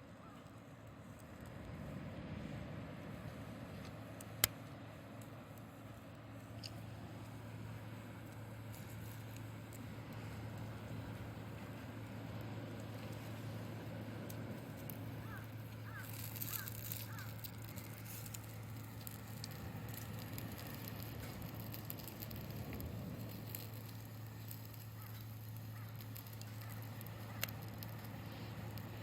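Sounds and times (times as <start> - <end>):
steady low hum: 0.0 - 29.0
campfire crackling and popping: 3.7 - 29.0.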